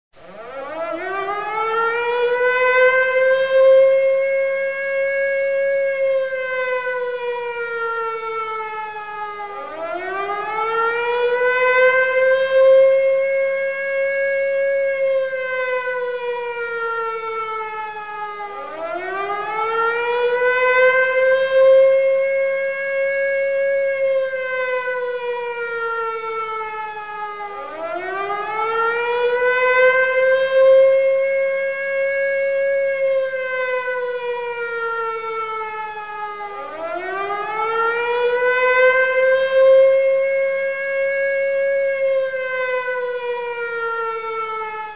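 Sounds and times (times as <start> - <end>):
air raid siren wailing: 0.2 - 44.9.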